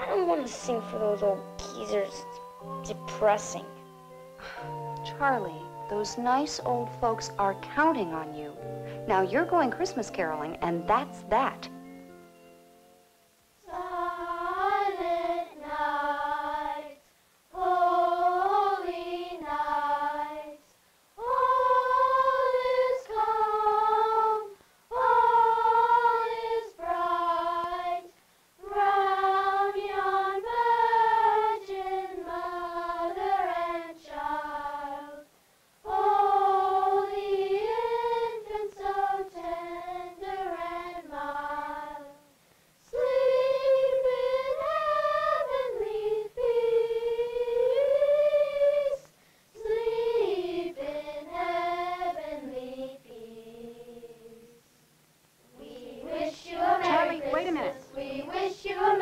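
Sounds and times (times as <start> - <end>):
children singing unaccompanied: 0.0 - 13.0, 13.6 - 54.6, 55.5 - 59.0.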